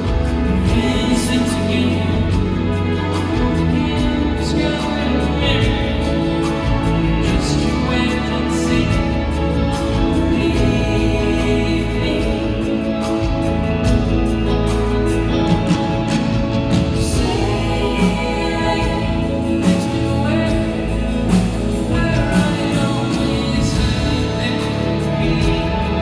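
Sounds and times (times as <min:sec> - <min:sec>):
drums: 0:00.0 - 0:26.0
electric guitar: 0:00.0 - 0:26.0
man singing lead vocal: 0:00.0 - 0:26.0.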